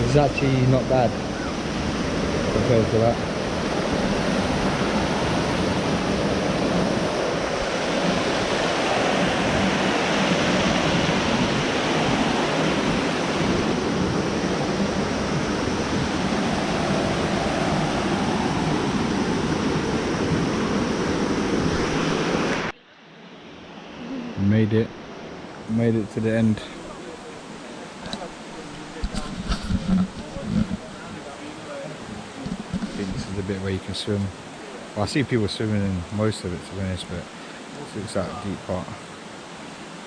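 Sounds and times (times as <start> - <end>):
waterfall and river rushing: 0.0 - 40.0.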